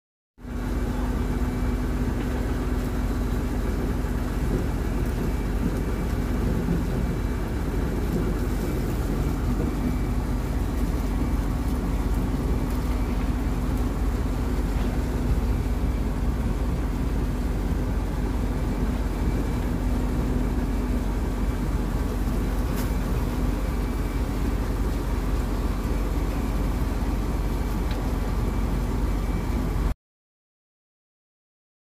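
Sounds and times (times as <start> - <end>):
diesel machinery engine drone: 0.4 - 30.0.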